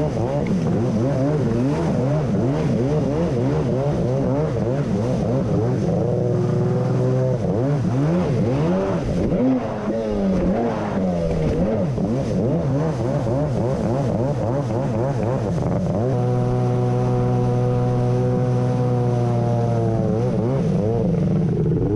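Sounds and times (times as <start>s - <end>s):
jet ski engine revving: 0.0s - 21.9s
rushing water and spray: 0.0s - 21.9s.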